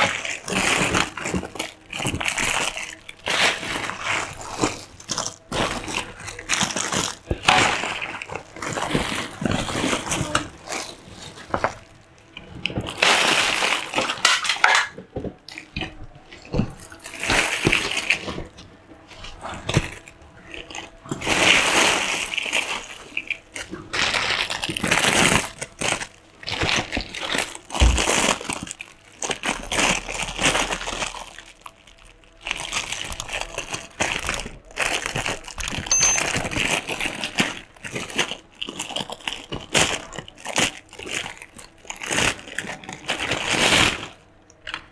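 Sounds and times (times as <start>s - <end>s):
plastic bags crinkling: 0.0s - 44.9s.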